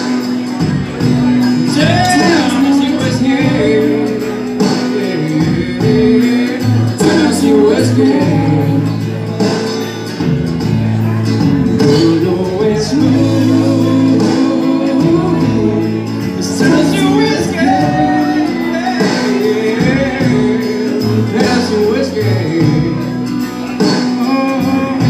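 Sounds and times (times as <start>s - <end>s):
backing track over speakers: 0.0s - 25.0s
man singing into microphone: 0.1s - 9.4s, 11.6s - 25.0s.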